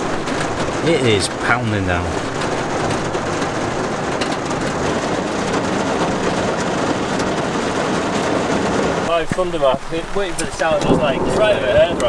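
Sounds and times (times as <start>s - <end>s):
heavy rain pounding: 0.0s - 12.0s.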